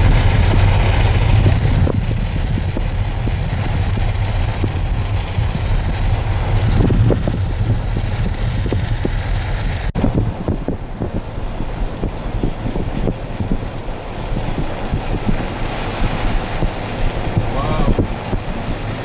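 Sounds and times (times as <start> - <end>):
car driving on highway: 0.0 - 19.0.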